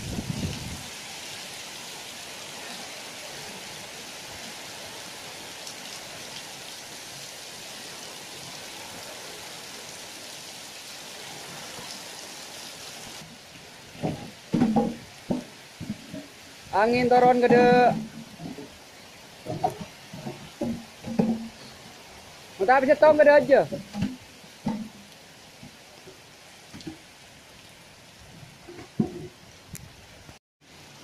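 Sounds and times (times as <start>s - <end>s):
heavy rain on leaves: 0.0s - 31.0s.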